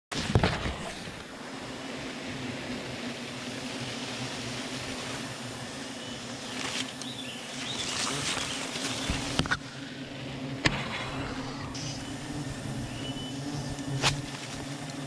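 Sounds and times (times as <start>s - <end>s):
bees buzzing: 0.2s - 15.0s.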